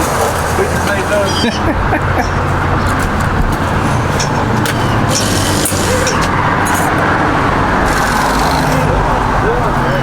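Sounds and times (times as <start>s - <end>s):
traffic-like noise: 0.0s - 10.0s
truck engine running: 0.0s - 10.0s.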